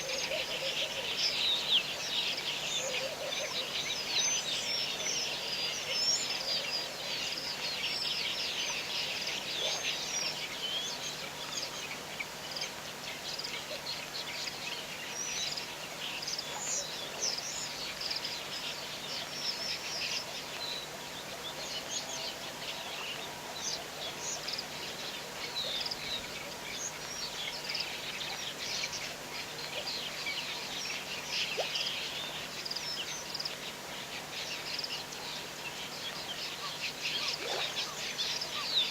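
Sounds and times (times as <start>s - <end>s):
many small birds chirping: 0.0s - 38.9s.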